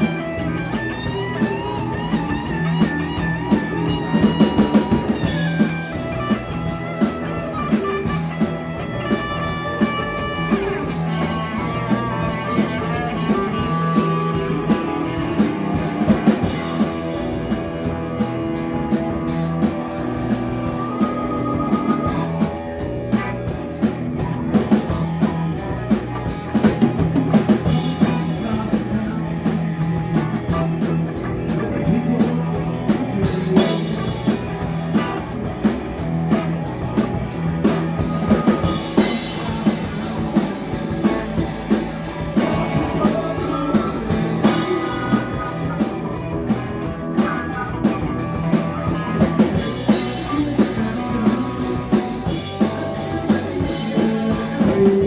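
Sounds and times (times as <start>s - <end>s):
drum kit beat: 0.0s - 55.0s
live rock band playing: 0.0s - 55.0s.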